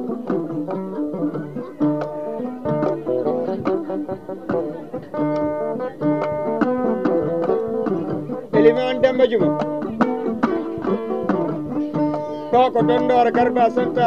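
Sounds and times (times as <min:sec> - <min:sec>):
acoustic guitar: 0:00.0 - 0:14.0
plucked lute melody: 0:00.0 - 0:14.0.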